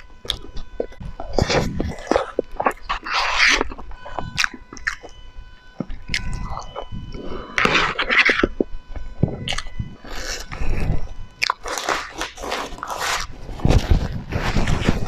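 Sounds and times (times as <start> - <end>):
bites and chewing: 0.0 - 5.2, 5.8 - 15.0.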